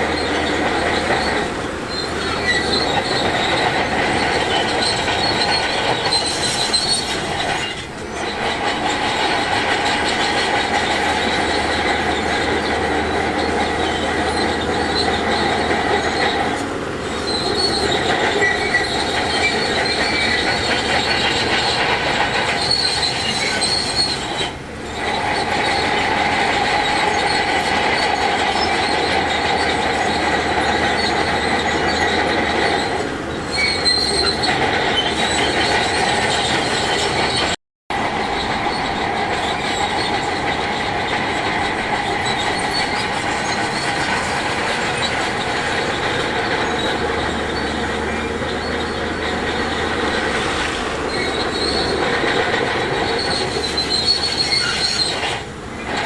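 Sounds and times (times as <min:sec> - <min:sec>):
heavy machinery engine: 0:00.0 - 0:56.0
metallic squeal and clatter: 0:00.0 - 0:56.0.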